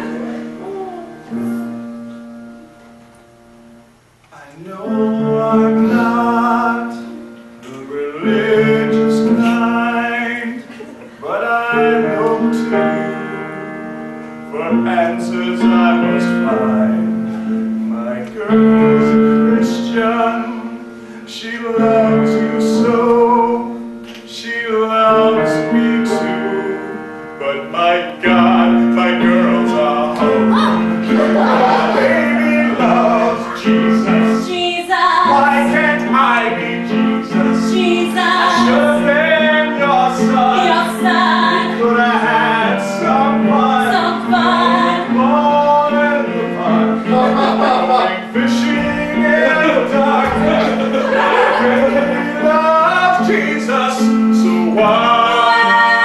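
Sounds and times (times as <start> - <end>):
instrumental accompaniment: 0.0 - 56.0
man singing: 4.4 - 56.0.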